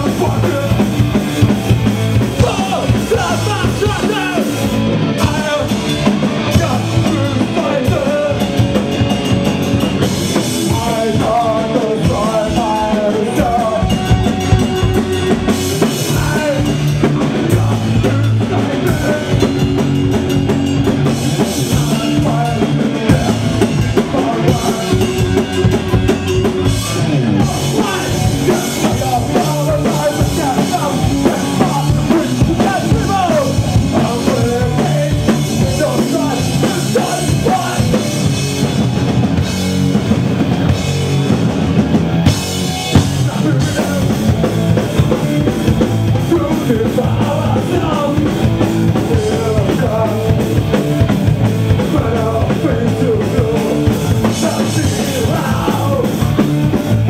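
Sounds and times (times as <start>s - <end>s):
drum kit: 0.0s - 57.0s
rock band playing live: 0.0s - 57.0s.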